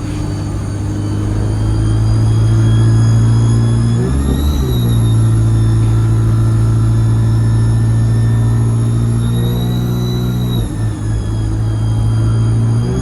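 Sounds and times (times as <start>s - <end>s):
bus diesel engine running: 0.0s - 13.0s
high turbo whistle: 0.0s - 13.0s.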